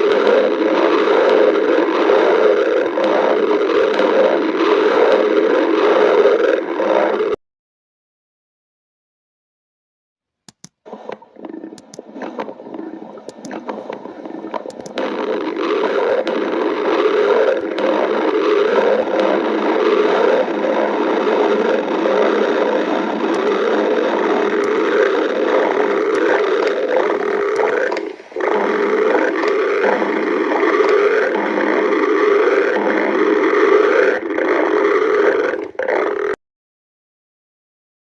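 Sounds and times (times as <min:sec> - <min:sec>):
stomach growling: 0:00.0 - 0:07.4, 0:10.8 - 0:36.4.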